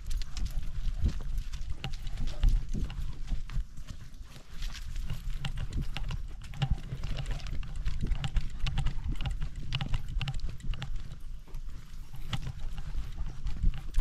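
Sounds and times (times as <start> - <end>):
dog footfalls on dirt: 0.0 - 14.0.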